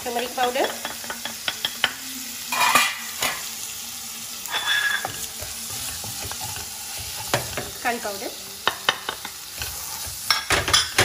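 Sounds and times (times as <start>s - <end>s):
vegetables sizzling in hot oil: 0.0s - 11.0s
spoon scraping and clinking pan: 0.2s - 3.5s, 4.5s - 7.8s, 8.6s - 11.0s.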